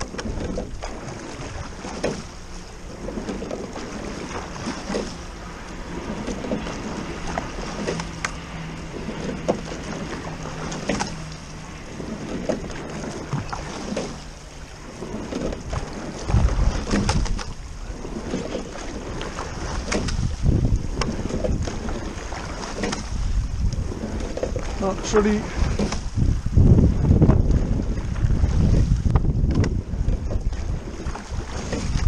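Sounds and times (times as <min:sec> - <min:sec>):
oar stroke knock and splash: 0:00.0 - 0:32.0
water splashing along hull: 0:00.0 - 0:32.0
wind buffeting microphone: 0:00.0 - 0:32.0.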